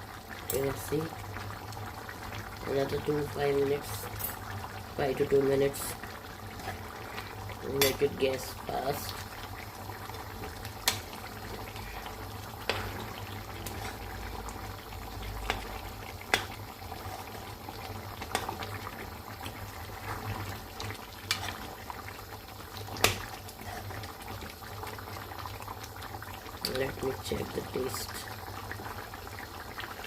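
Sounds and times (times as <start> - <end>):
stew bubbling in a wok: 0.0 - 30.0.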